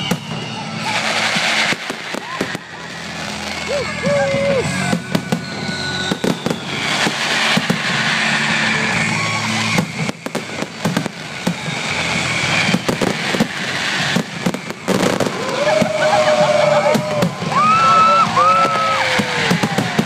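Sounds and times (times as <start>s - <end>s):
fireworks bangs: 0.0s - 20.0s
fireworks crackling hiss: 0.0s - 20.0s
fireworks whistling: 0.0s - 20.0s.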